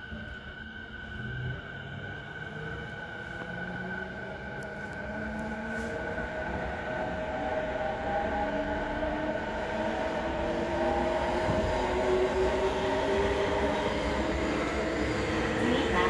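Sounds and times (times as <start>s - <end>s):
electric train motors whining: 2.0s - 16.0s.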